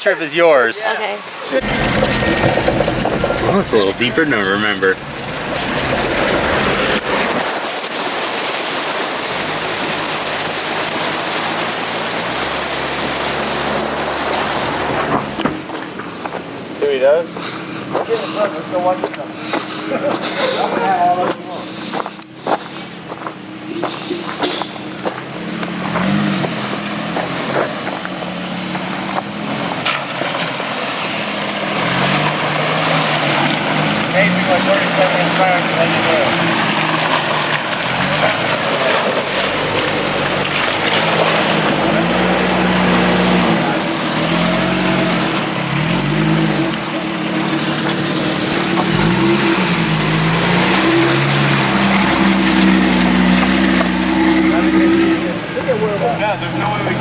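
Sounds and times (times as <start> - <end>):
creek water rushing and splashing: 0.0 - 57.0
truck engine running low: 1.6 - 57.0.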